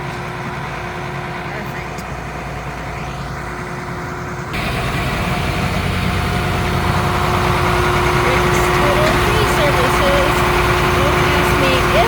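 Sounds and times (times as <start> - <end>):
heavy engine running: 0.0 - 12.0.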